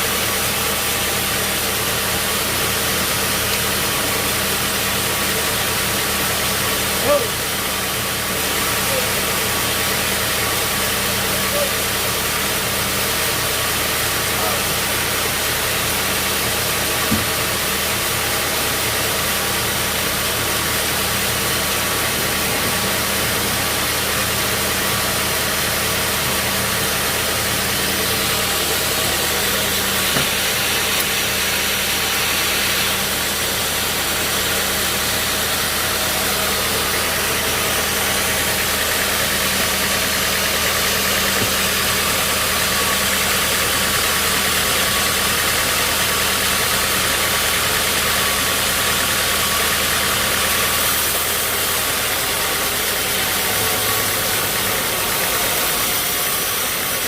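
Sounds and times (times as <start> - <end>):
sawmill engine humming: 0.0 - 57.0.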